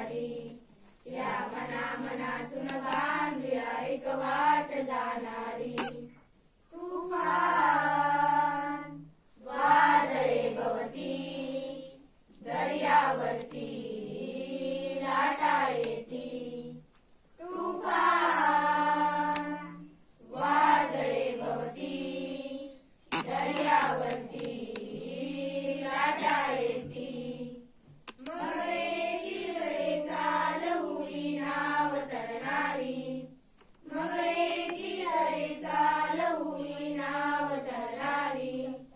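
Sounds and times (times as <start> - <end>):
children singing together: 0.0 - 38.9.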